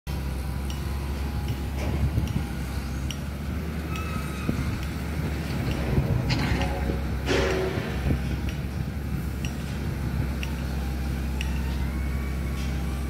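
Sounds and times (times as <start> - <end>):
steady low rumble: 0.1 - 13.0.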